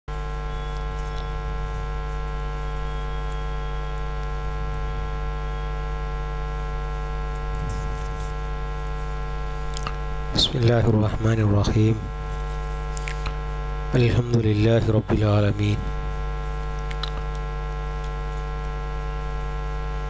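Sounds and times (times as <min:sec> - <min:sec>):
electrical mains hum: 0:00.1 - 0:20.0.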